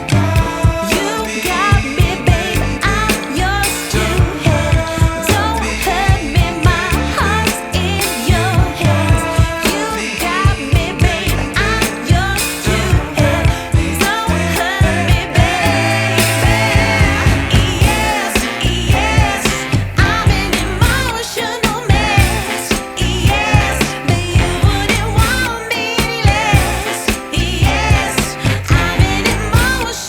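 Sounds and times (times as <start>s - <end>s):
song with sung vocals over a beat: 0.0s - 30.0s.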